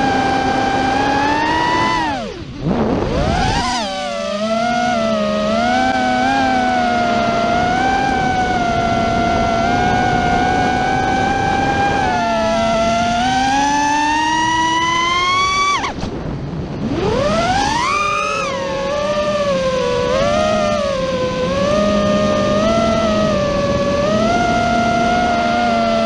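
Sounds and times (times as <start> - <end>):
quadcopter motors whining: 0.0 - 16.1, 16.8 - 26.0.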